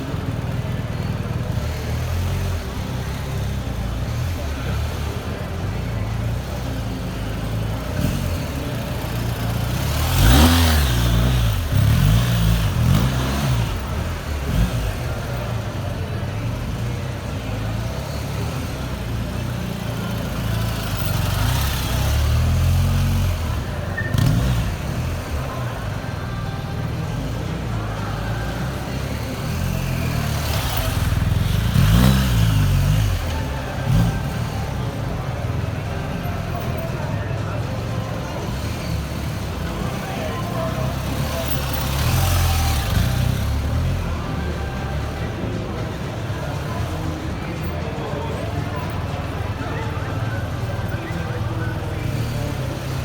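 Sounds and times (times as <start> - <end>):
motorcycle engines revving past: 0.0 - 53.0.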